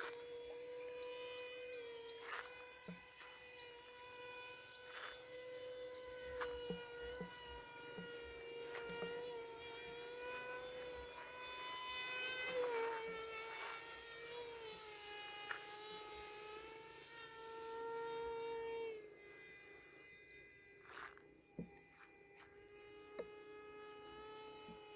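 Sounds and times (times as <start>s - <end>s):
electric motor propeller whine: 0.0s - 24.9s.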